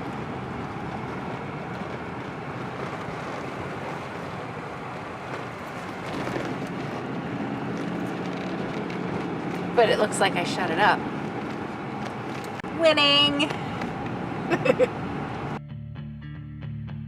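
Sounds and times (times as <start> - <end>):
car road and engine noise: 0.0 - 15.6.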